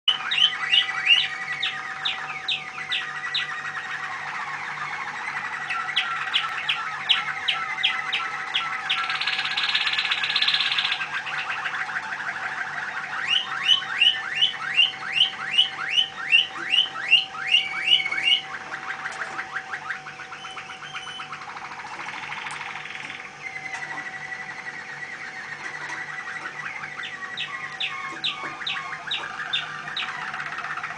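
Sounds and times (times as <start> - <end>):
songbird singing: 0.1 - 30.9.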